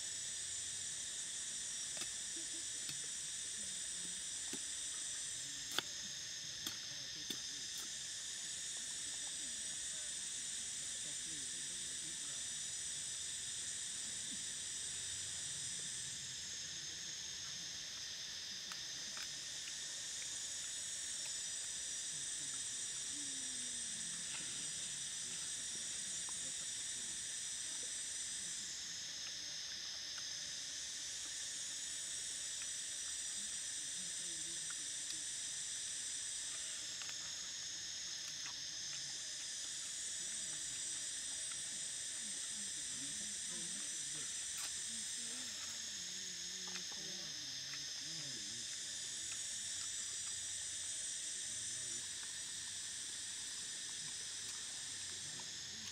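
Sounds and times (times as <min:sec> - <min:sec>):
insects chorus shrilling: 0:00.0 - 0:55.9.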